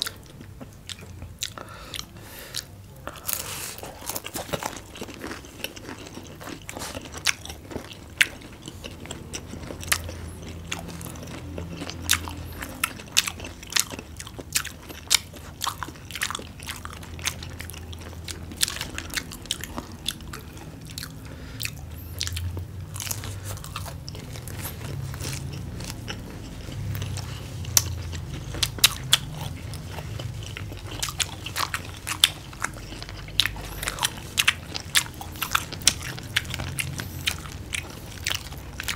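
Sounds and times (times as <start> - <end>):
crunching fried food: 0.0 - 38.9
low chewing sound: 0.0 - 38.9.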